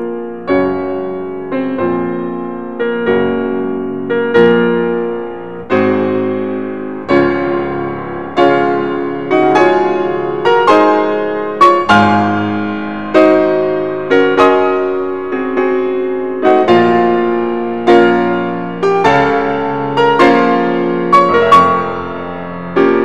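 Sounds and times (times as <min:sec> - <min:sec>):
slow gentle piano music: 0:00.0 - 0:23.0.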